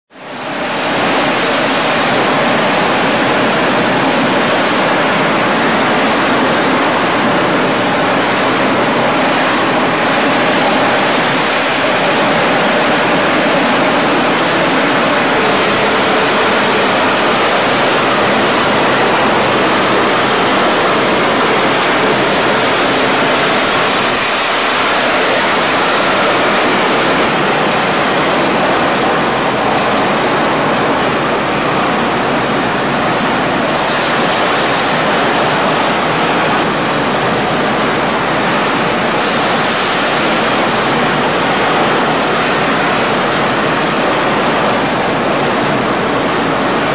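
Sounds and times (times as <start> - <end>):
high-pressure water jet blasting: 0.2 - 46.9.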